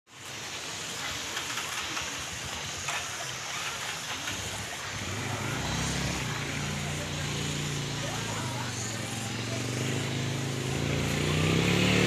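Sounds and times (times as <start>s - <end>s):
steady rushing noise: 0.1s - 12.0s
low vehicle engine hum: 1.7s - 12.0s.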